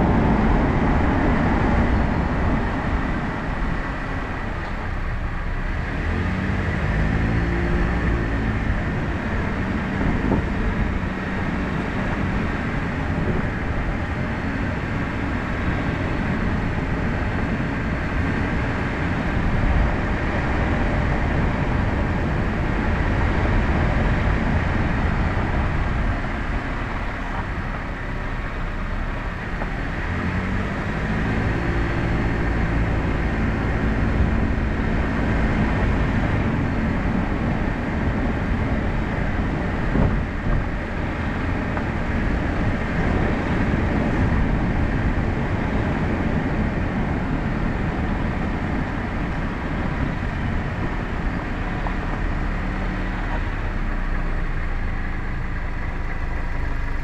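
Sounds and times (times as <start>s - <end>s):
car driving on rough pavement: 0.0s - 57.0s.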